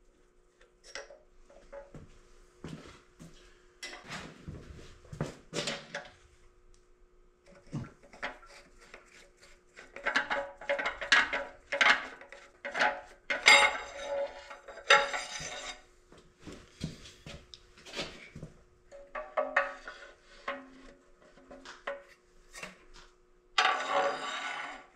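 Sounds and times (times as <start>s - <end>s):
faint steady hum: 0.0s - 24.8s.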